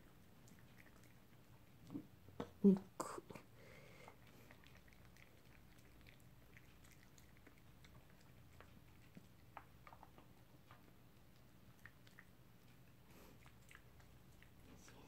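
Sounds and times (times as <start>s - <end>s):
dog gnawing a chew: 0.0s - 2.2s, 4.1s - 15.0s.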